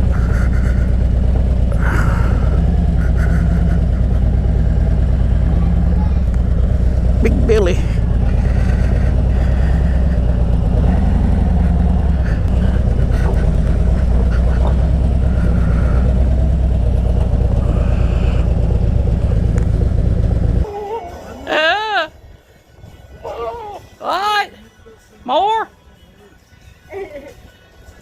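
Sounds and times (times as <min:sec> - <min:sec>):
vehicle engine rumbling: 0:00.0 - 0:25.1.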